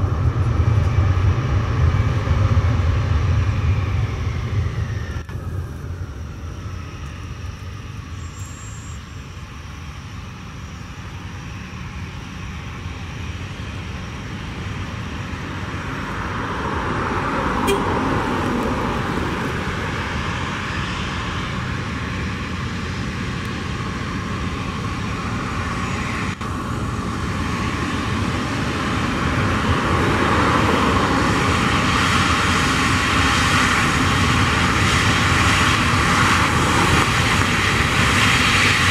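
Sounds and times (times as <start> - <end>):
jet engines whining and rumbling: 0.0 - 38.9.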